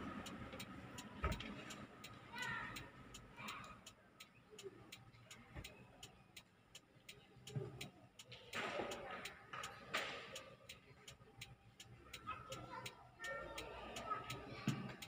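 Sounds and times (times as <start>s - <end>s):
turn signal clicking: 0.0s - 8.3s, 10.3s - 14.4s.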